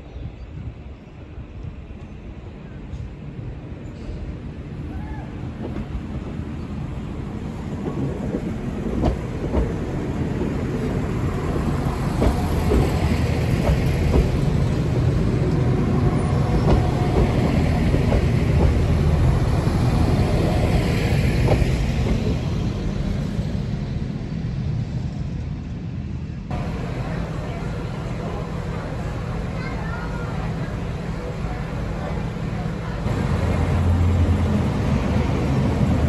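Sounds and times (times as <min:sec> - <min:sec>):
train engine and wheels rumbling: 0:00.0 - 0:36.0.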